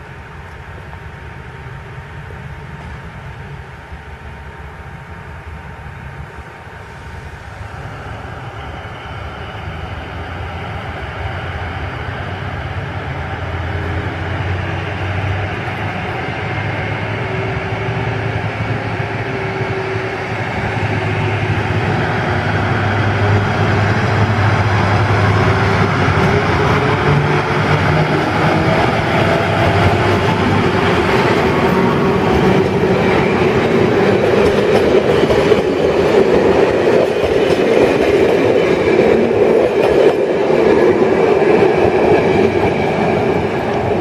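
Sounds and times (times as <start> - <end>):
diesel locomotive engine working: 5.4 - 44.0.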